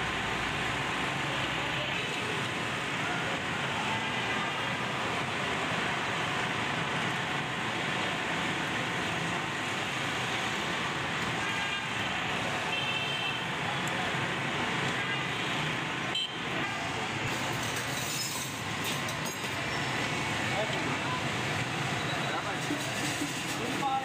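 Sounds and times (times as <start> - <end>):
passing traffic: 0.0 - 24.0.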